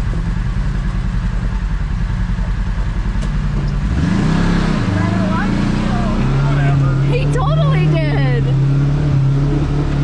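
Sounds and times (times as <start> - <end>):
vehicle engine pulsing: 0.0 - 10.0.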